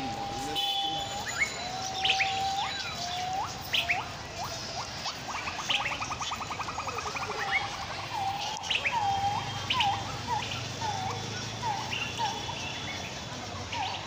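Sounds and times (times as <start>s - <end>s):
bird whistling call: 0.6s - 13.0s
high bird chirps: 0.8s - 13.1s.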